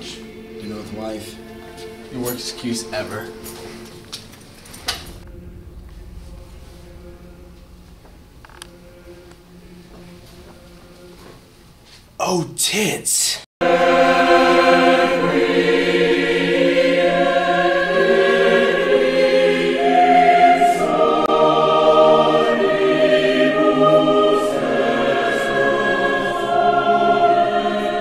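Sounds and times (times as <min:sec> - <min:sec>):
choir singing held chords: 0:00.0 - 0:11.6, 0:13.6 - 0:28.0.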